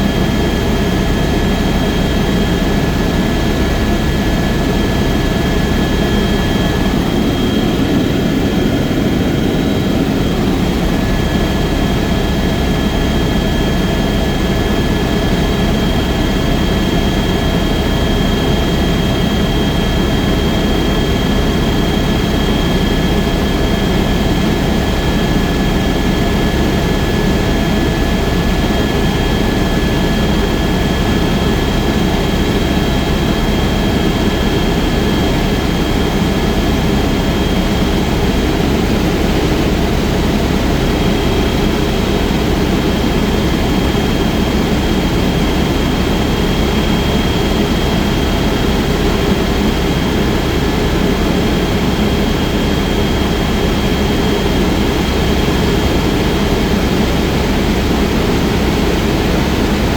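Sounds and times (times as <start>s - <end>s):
helicopter rotor and engine drone: 0.0s - 59.9s.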